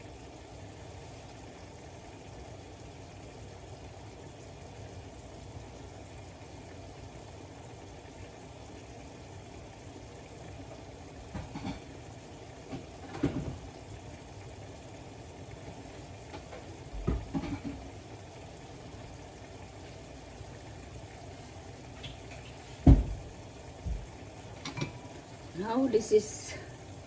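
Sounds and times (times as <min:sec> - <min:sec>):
chicken cooking in a pan: 0:00.0 - 0:27.0.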